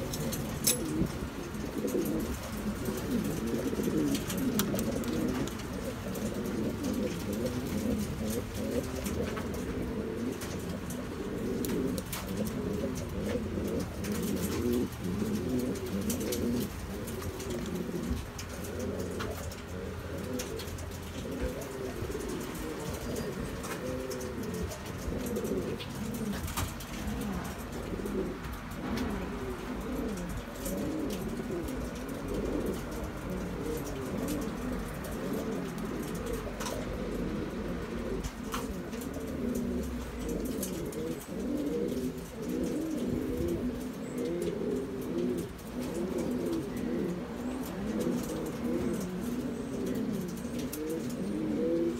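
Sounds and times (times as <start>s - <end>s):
pigeons cooing: 0.0s - 51.9s.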